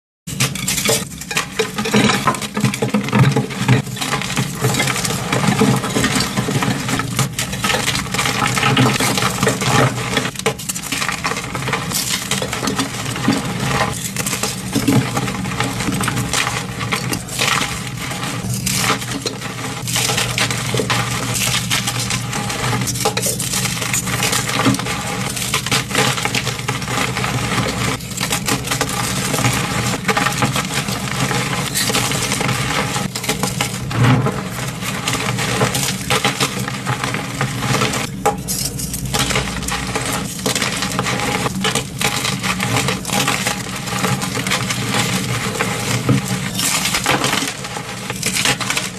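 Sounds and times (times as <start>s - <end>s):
chalk blocks crunching: 0.3s - 48.9s.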